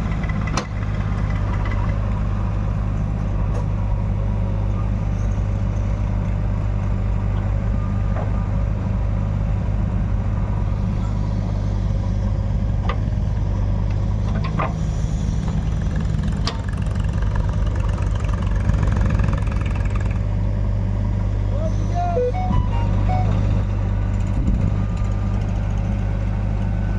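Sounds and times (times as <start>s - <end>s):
diesel engine rumbling: 0.0s - 16.3s, 17.0s - 26.9s.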